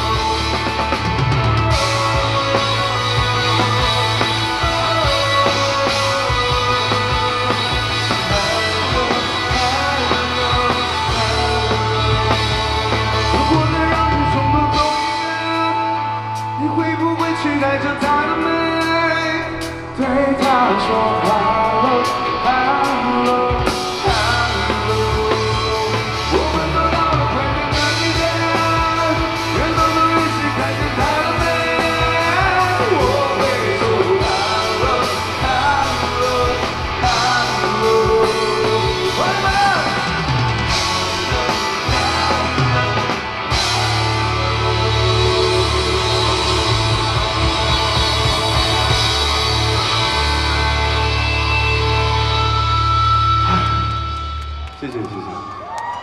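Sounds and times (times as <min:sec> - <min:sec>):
bass guitar: 0:00.0 - 0:56.0
drums: 0:00.0 - 0:56.0
electric guitar: 0:00.0 - 0:56.0.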